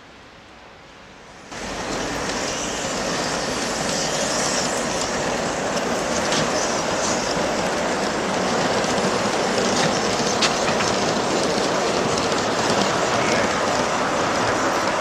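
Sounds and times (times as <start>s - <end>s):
model train rattling on track: 1.5s - 15.0s.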